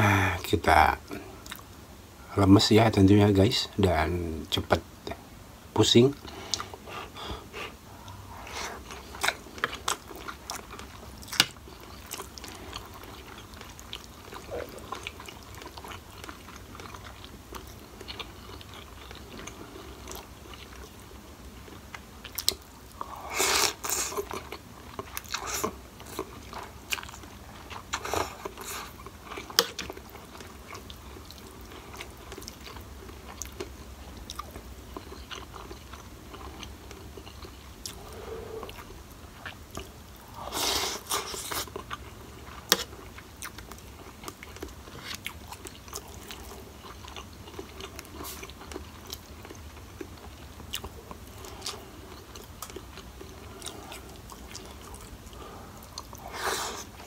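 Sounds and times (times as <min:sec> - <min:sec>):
person chewing food: 0:01.1 - 0:01.7, 0:06.2 - 0:57.0.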